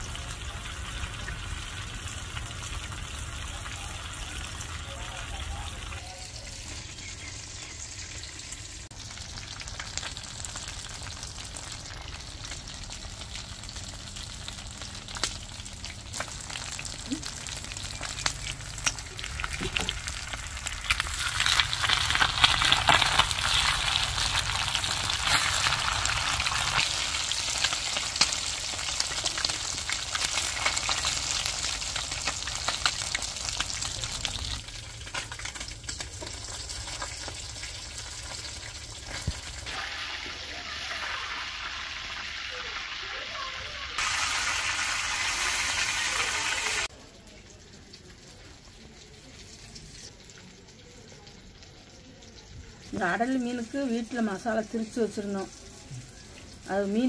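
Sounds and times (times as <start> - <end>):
fish sizzling in hot oil: 0.0 - 57.0.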